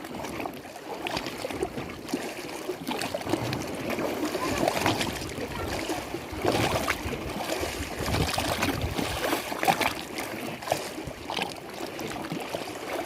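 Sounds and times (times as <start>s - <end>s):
lake water lapping on shore: 0.0s - 13.0s.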